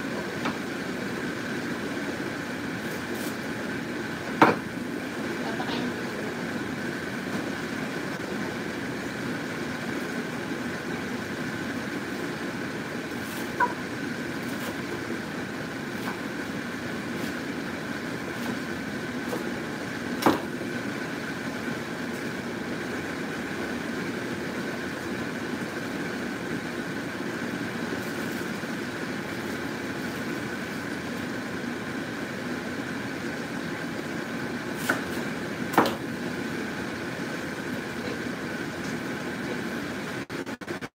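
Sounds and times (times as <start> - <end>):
broth boiling in a pot: 0.0 - 40.9.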